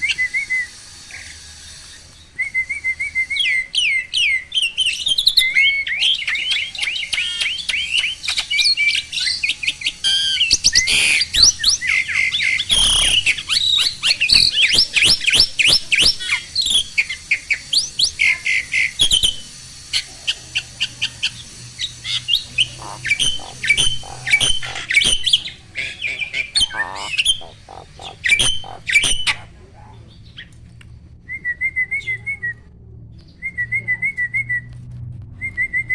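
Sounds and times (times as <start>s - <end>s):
starling whistling and chattering: 0.0s - 30.5s.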